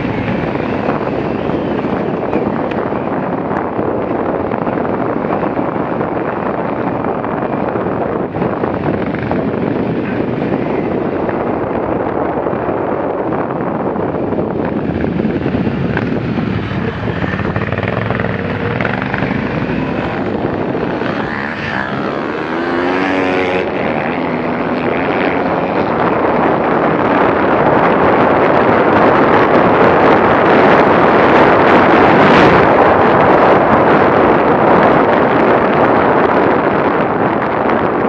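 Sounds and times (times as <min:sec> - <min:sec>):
motorcycle engine running: 0:00.0 - 0:36.5
rough riding noise: 0:00.0 - 0:38.0.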